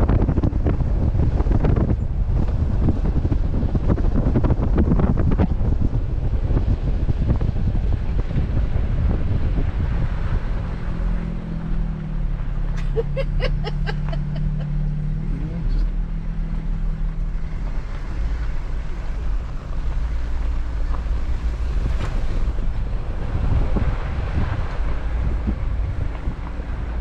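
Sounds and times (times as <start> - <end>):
vehicle engine rumble: 0.0 - 27.0
wind buffeting microphone: 0.0 - 27.0.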